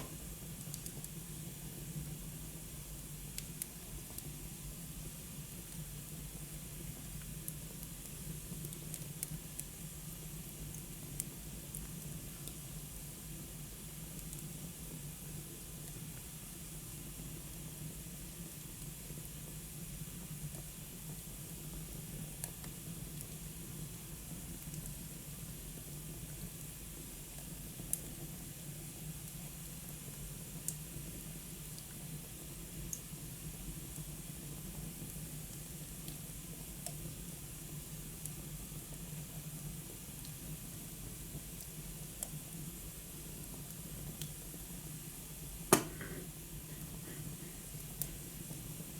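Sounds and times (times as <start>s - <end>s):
wood fire hissing: 0.0s - 48.9s.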